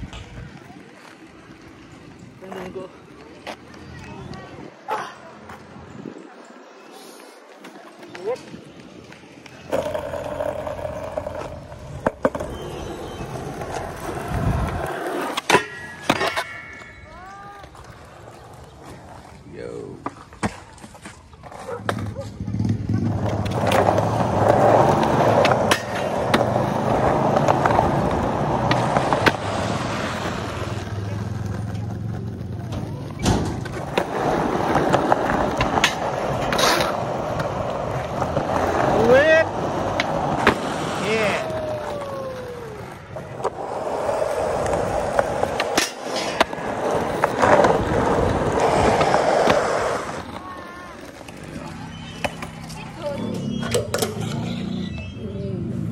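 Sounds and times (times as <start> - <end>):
skateboard wheels rolling on concrete: 0.0 - 55.9
skateboard clacks: 7.6 - 19.3, 20.0 - 55.0.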